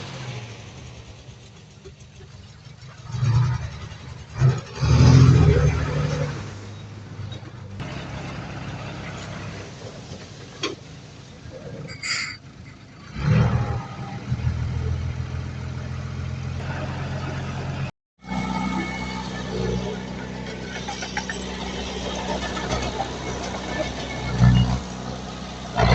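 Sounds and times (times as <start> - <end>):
heavy diesel engine running: 0.0 - 11.5, 12.4 - 25.9.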